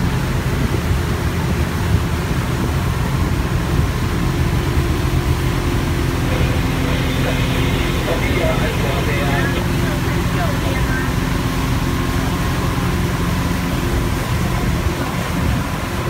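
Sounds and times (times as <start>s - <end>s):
motorboat engine drone: 0.0s - 16.0s
water rushing against hull: 0.0s - 16.0s.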